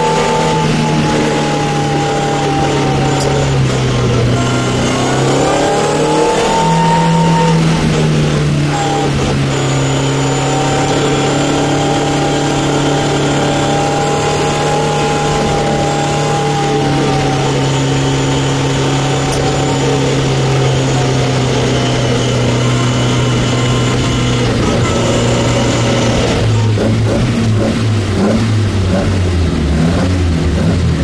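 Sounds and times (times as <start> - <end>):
racing car engine running hard: 0.0 - 31.0.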